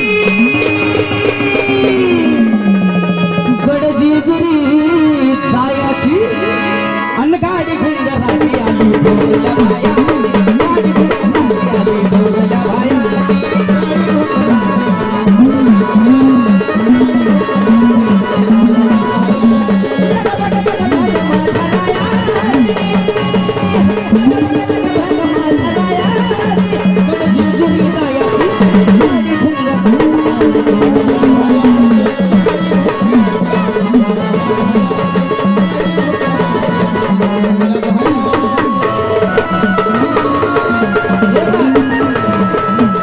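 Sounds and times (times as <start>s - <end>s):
hand drums: 0.0s - 3.4s, 7.6s - 43.0s
steady held notes: 0.0s - 43.0s
winding melodic line: 8.3s - 43.0s.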